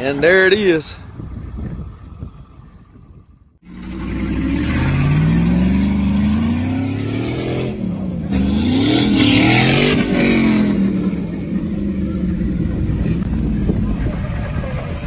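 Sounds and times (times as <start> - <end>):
vehicle engine accelerating: 1.2 - 15.0.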